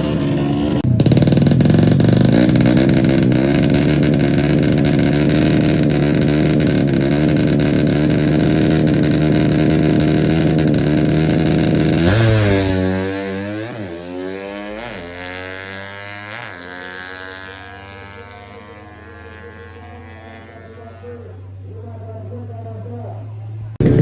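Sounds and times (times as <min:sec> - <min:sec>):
motorcycle engine running loudly: 0:00.0 - 0:24.0.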